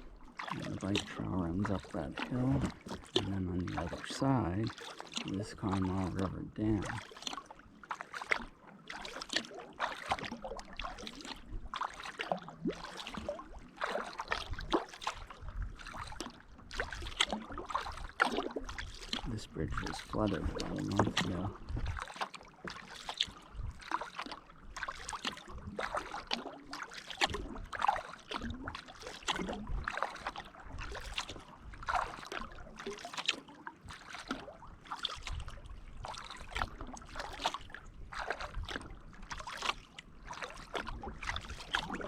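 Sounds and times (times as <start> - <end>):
kayak paddle splashes: 0.0 - 42.0
water dripping from paddle: 0.0 - 42.0.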